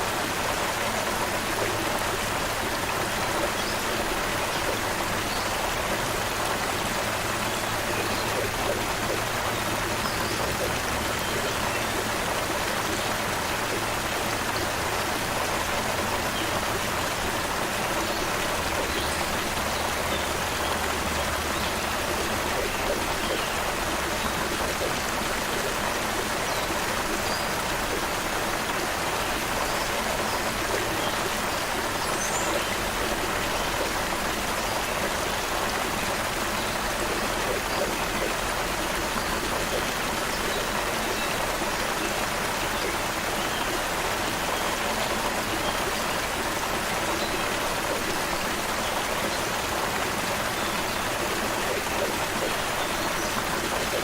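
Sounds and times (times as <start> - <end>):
creek water running over stones: 0.0 - 54.0.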